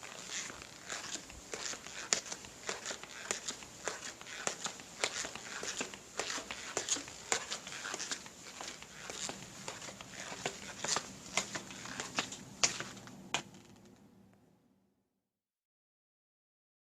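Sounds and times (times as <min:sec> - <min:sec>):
footsteps walking: 0:00.0 - 0:13.8.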